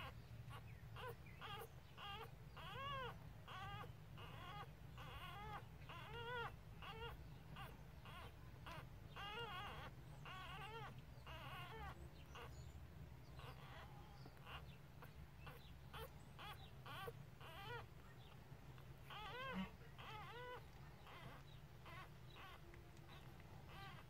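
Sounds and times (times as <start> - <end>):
puppies squeaking and whimpering: 0.0 - 24.0.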